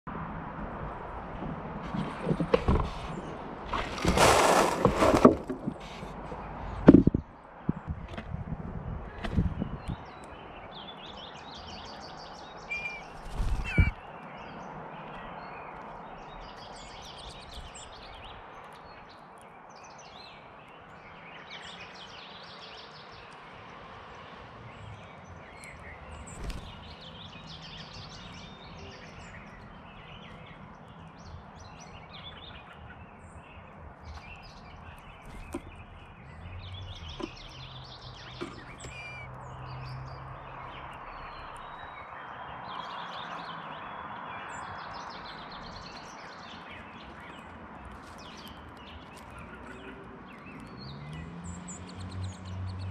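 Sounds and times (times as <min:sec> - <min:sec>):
wild birds chirping: 0:00.7 - 0:52.9.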